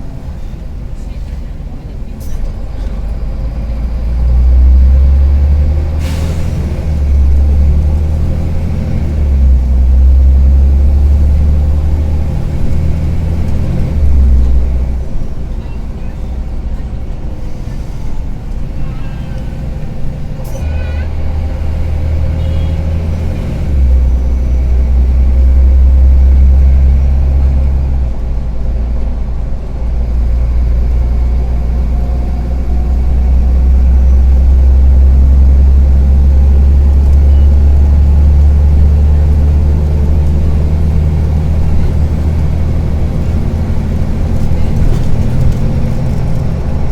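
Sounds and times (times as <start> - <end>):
bus engine droning: 0.0 - 46.9.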